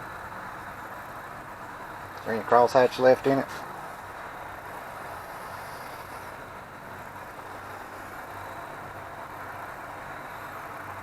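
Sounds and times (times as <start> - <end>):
low background hum and hiss: 0.0 - 11.0.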